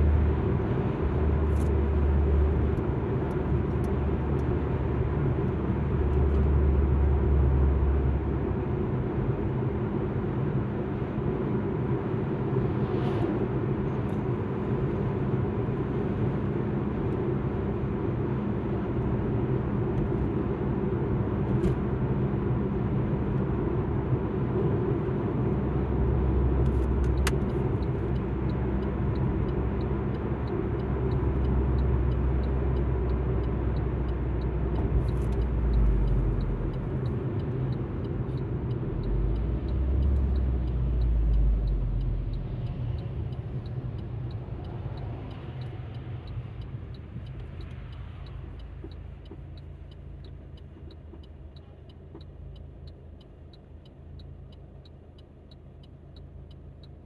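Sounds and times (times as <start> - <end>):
faint turn indicator ticking: 0.0 - 13.0, 13.9 - 57.0
car engine and road noise: 0.0 - 57.0.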